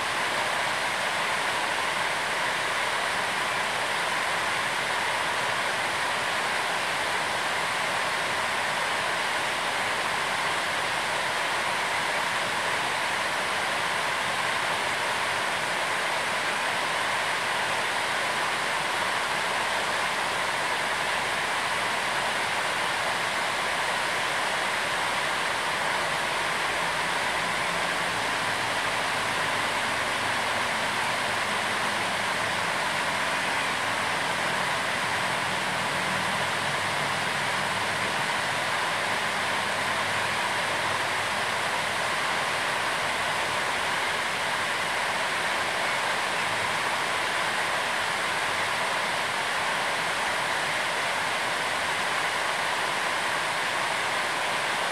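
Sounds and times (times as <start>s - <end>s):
steady rushing noise: 0.0s - 54.9s.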